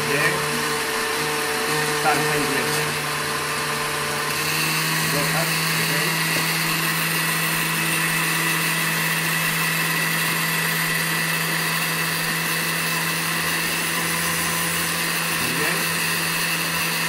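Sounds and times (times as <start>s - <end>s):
blender motor whirring: 0.0s - 17.0s.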